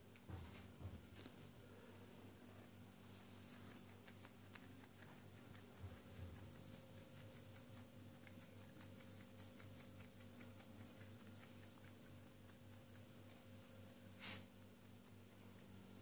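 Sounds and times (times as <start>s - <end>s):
faint steady hum: 0.0s - 16.0s
grass being chewed: 3.2s - 16.0s.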